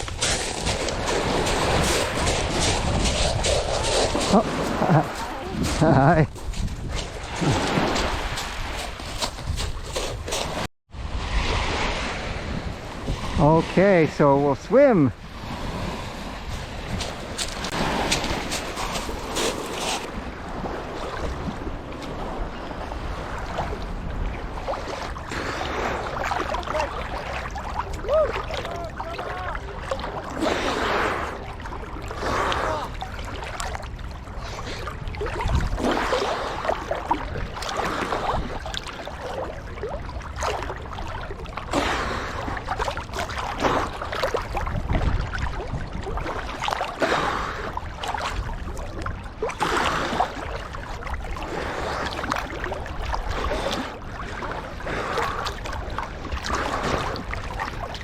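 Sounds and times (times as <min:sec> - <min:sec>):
water splashing from swimming strokes: 0:00.0 - 0:10.7, 0:16.4 - 0:58.0.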